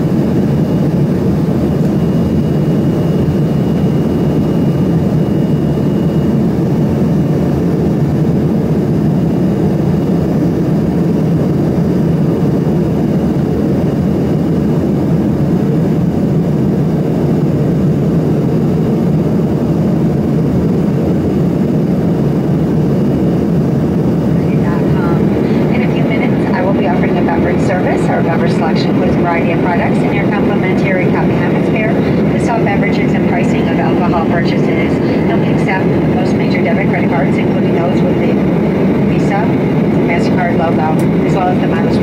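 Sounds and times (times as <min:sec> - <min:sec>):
jet cabin engine roar: 0:00.0 - 0:42.0.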